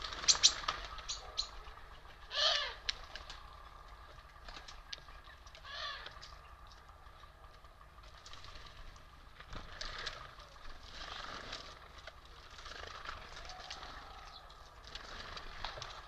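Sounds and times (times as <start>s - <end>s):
birds tapping and rustling: 0.0s - 16.0s.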